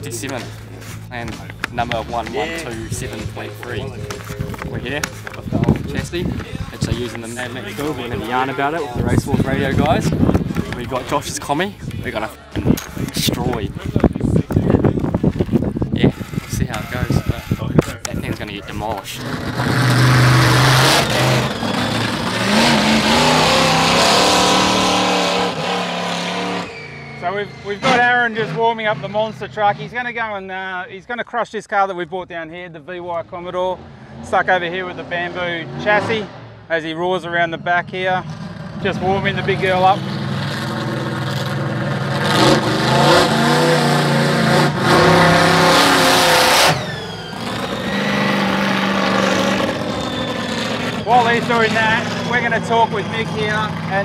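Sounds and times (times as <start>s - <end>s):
truck engine revving: 0.0s - 30.2s, 33.5s - 54.0s.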